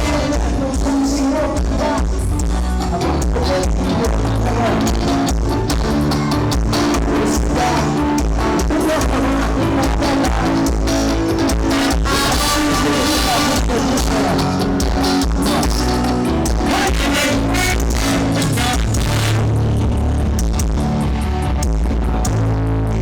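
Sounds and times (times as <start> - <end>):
loud band music with heavy bass: 0.0 - 23.0.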